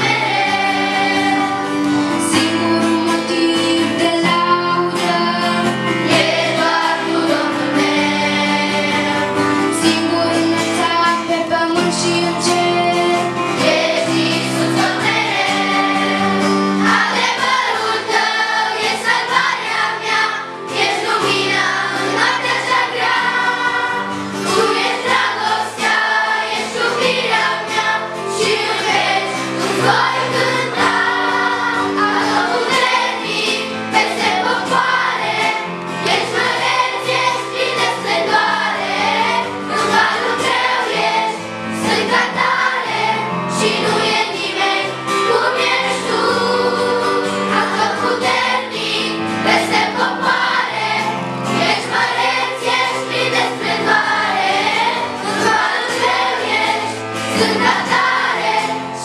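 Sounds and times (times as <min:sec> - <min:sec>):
children's choir singing: 0:00.0 - 0:59.0
instrumental accompaniment: 0:00.0 - 0:59.0.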